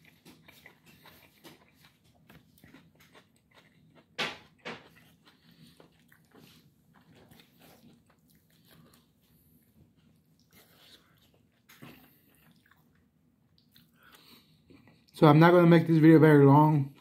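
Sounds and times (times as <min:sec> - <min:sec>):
chewing and mouth smacks: 0:00.0 - 0:15.2.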